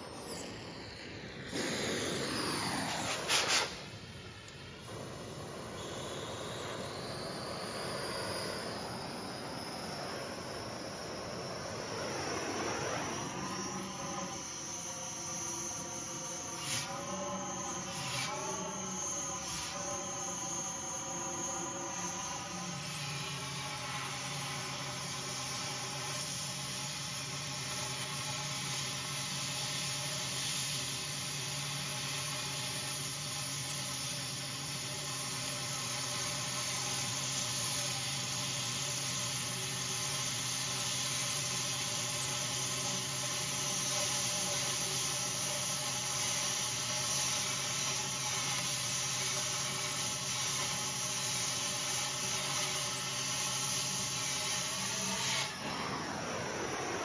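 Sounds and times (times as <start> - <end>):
cutting torch hissing: 0.0 - 57.0.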